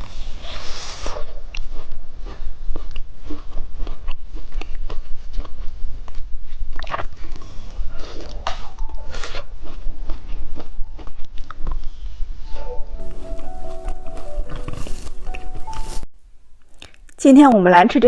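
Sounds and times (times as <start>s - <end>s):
biting and chewing ice cream bar: 0.1s - 12.4s, 13.1s - 16.0s.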